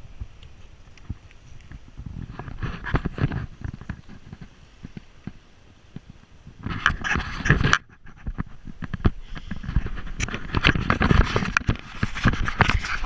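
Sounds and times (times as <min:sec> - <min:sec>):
handheld camera being jostled: 0:00.0 - 0:13.0.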